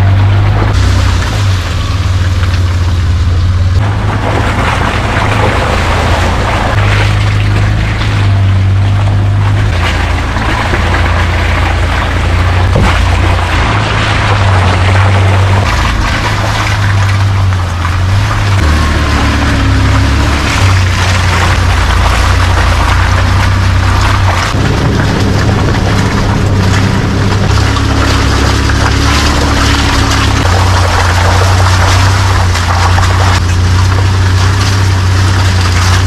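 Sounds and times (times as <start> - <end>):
truck engine rumbling: 0.0 - 36.0
water splashing: 0.0 - 36.0.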